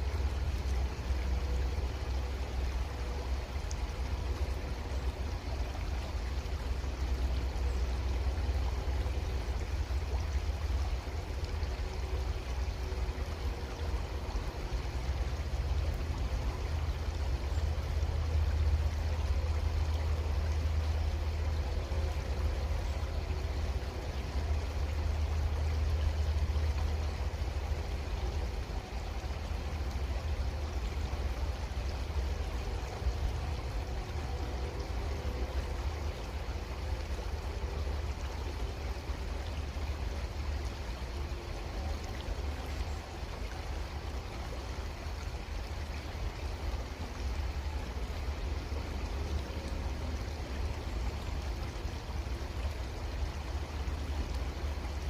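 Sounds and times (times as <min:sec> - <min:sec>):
creek water flowing and trickling: 0:00.0 - 0:55.0.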